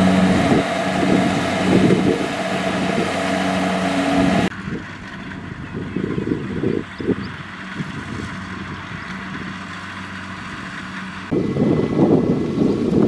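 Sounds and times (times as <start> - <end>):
combine harvester engine running: 0.0 - 13.0
distant engine hum: 0.0 - 13.0
wind rumbling on microphone: 0.0 - 13.0.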